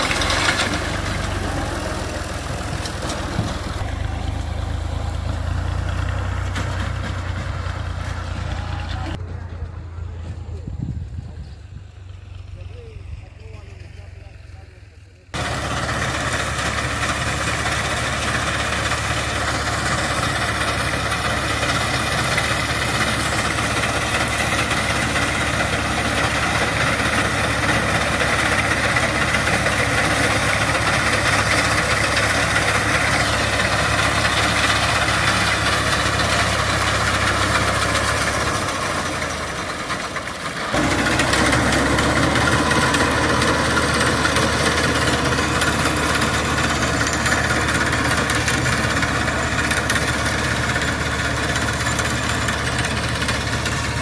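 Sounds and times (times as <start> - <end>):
tractor engine running under load: 0.0 - 54.0.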